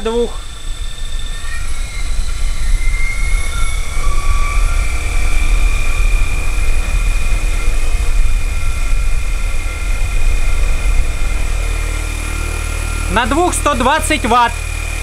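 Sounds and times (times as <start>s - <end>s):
electric motor high whine: 0.0s - 15.0s
propeller airflow buffeting: 0.0s - 15.0s.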